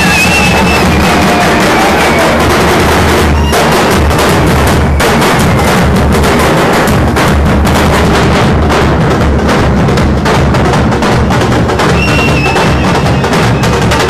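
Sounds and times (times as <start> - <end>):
loud music with fast drum beat: 0.0 - 14.0.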